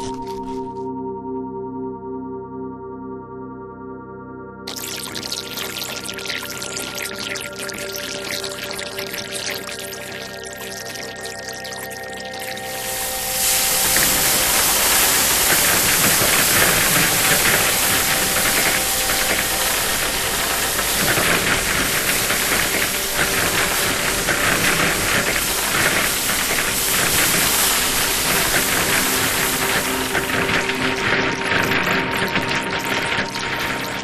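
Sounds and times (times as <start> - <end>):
crackly rushing hiss: 4.7 - 34.0.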